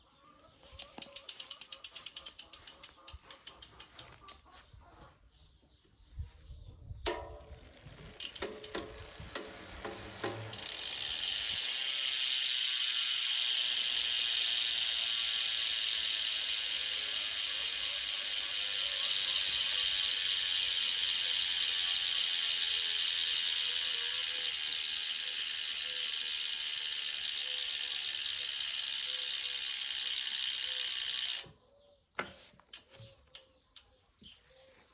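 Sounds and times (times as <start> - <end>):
freewheeling ratchet buzz: 0.8 - 4.3, 7.1 - 31.6
bicycle freehub ratchet clicking: 0.8 - 4.4, 7.0 - 31.6.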